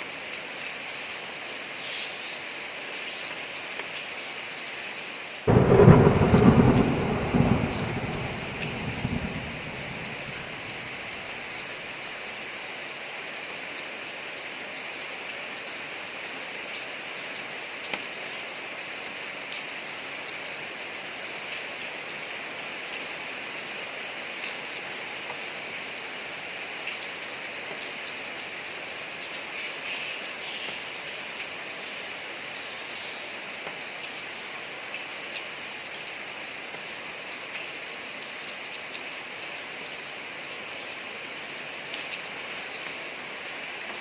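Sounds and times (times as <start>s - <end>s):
rain falling on a street: 0.0s - 44.0s.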